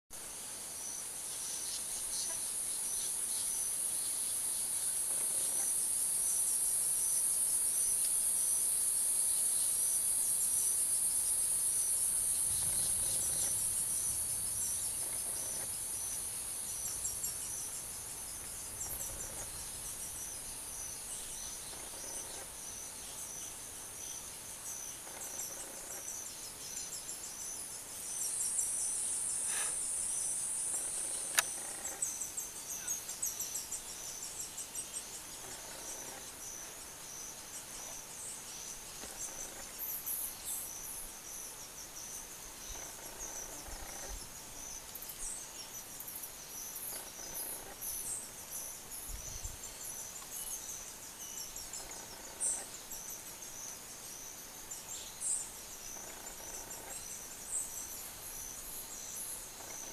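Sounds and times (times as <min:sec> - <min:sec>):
high-pitched insect drone: 0:00.8 - 0:59.9.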